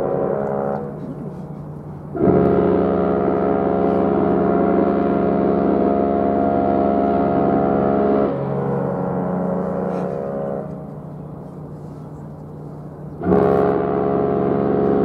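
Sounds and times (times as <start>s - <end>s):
lower quieter horn note: 0.0s - 1.2s, 2.1s - 11.6s, 13.2s - 15.0s
loud deep ship horn blast: 0.0s - 11.8s, 12.8s - 15.0s.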